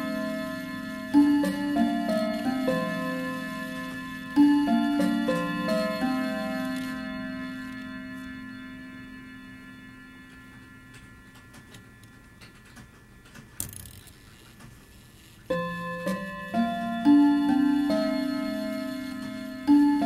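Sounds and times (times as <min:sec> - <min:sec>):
clock gongs ringing: 0:00.0 - 0:13.2, 0:15.5 - 0:20.0.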